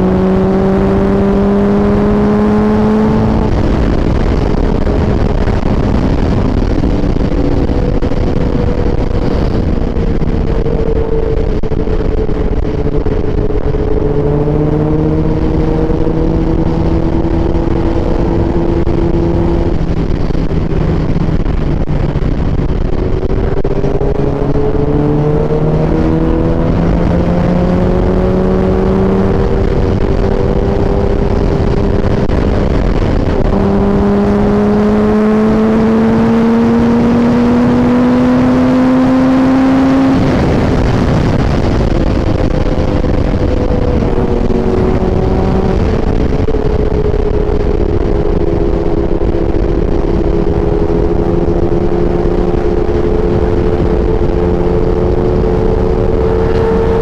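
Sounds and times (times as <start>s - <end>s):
vehicle engine running at speed: 0.0s - 57.0s
wind and road noise: 0.0s - 57.0s.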